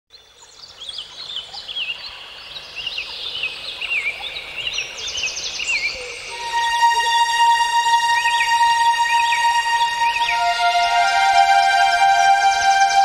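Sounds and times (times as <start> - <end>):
birds chirping: 0.1 - 13.0
bird trill: 0.2 - 13.0.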